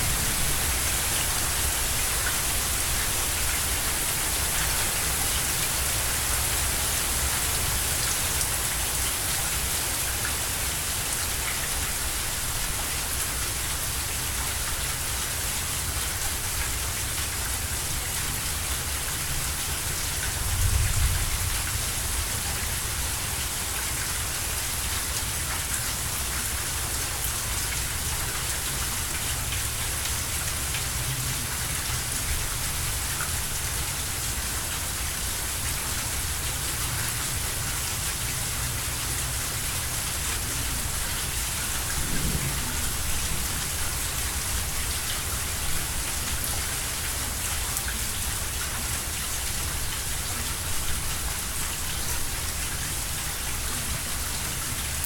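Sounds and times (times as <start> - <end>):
steady rain on lawn: 0.0 - 55.0.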